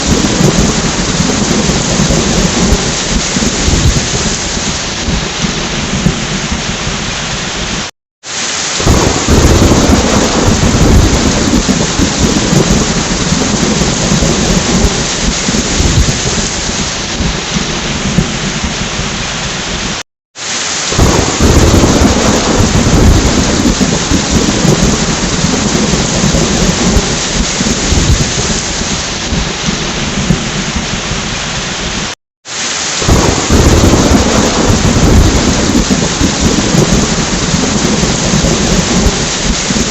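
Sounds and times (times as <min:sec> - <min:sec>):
rolling thunder: 0:00.0 - 0:07.9, 0:08.8 - 0:20.0, 0:20.9 - 0:32.2, 0:33.0 - 0:39.9
heavy rain: 0:00.0 - 0:39.9.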